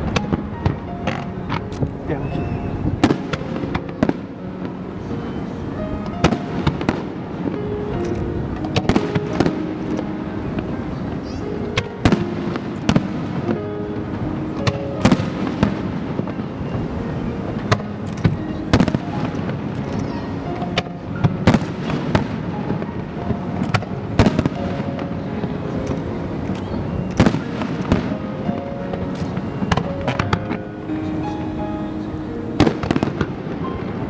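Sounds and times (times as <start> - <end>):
fireworks bursting with sharp bangs: 0.0 - 31.6, 32.6 - 34.0
music playing: 0.0 - 34.0.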